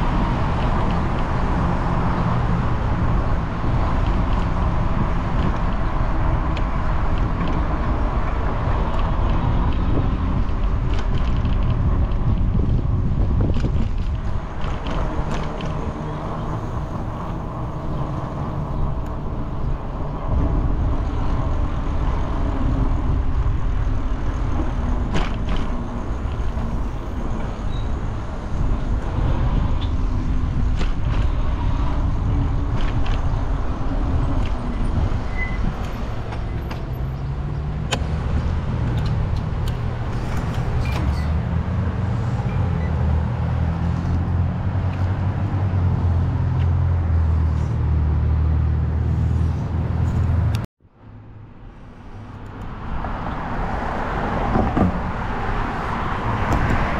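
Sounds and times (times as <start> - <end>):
deeper engine hum: 0.0 - 56.9
motor vehicle engine noise: 0.0 - 56.9.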